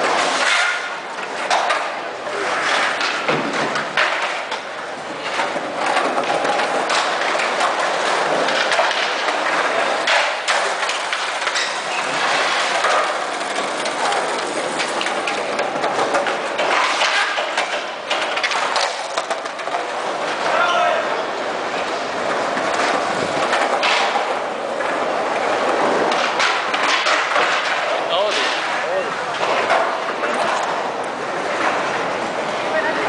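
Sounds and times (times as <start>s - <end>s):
skateboard wheels rolling on concrete: 0.0s - 33.0s
skateboards clacking on ground: 0.0s - 33.0s.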